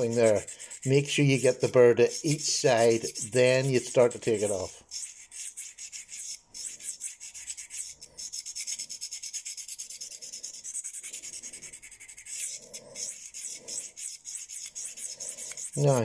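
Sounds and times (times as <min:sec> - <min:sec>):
knife scraping on sharpening plate: 0:00.0 - 0:16.0.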